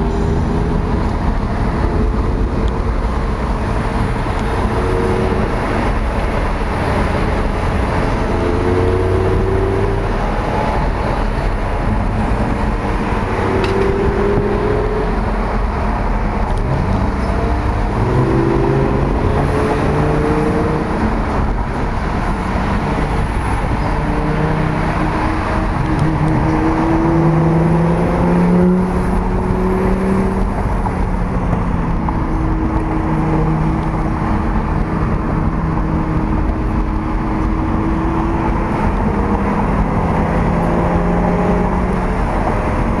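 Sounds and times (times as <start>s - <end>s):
sports car engines revving: 0.0s - 43.0s
traffic rumble: 0.0s - 43.0s.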